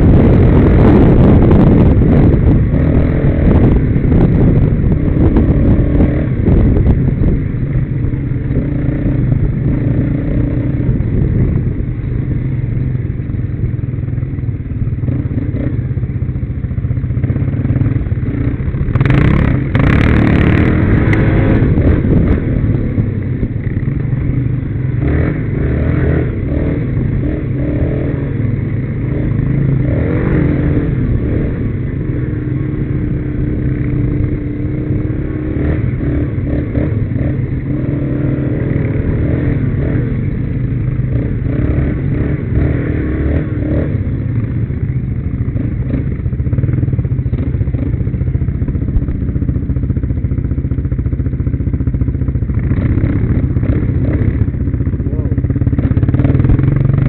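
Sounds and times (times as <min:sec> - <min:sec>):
quad bike engines revving: 0:00.0 - 0:57.0.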